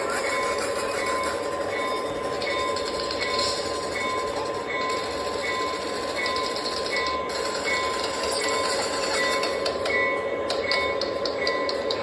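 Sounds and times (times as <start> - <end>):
model train motor hum and wheel rumble: 0.0 - 12.0.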